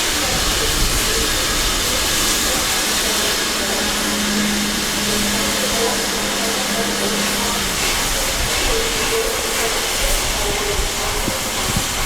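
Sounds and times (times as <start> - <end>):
locomotive steam hissing: 0.0 - 12.0.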